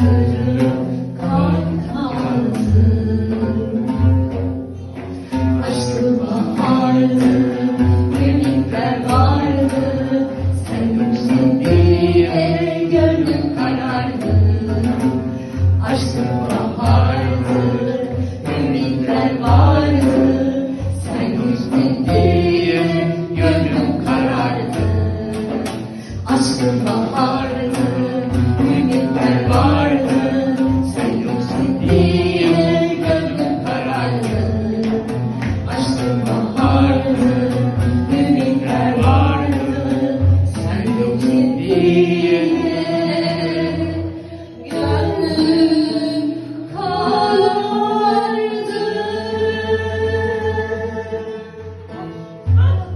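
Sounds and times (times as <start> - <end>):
women singing a duet: 0.0 - 52.9.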